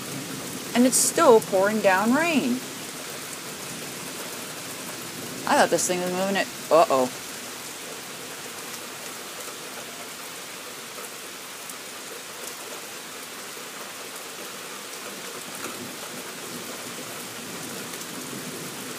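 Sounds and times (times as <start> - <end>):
raindrops ticking: 0.0 - 18.2
heavy rain hissing: 0.0 - 18.9.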